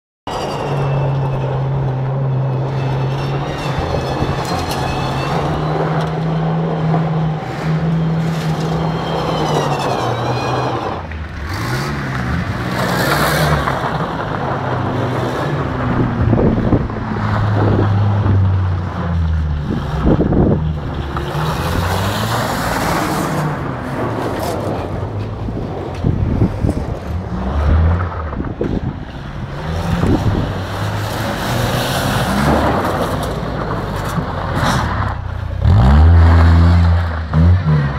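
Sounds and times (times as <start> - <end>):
car engine revving: 3.0 - 37.9.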